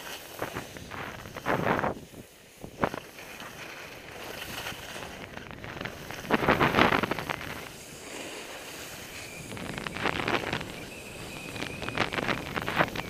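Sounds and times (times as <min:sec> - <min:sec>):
ski edges hissing on snow: 0:00.0 - 0:13.0
ski edges scraping snow: 0:00.0 - 0:13.0
wind buffeting microphone: 0:00.3 - 0:13.0.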